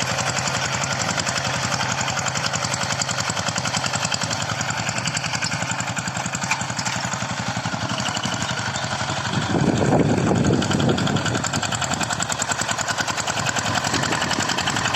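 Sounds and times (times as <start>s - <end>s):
diesel engine chugging: 0.0s - 14.9s.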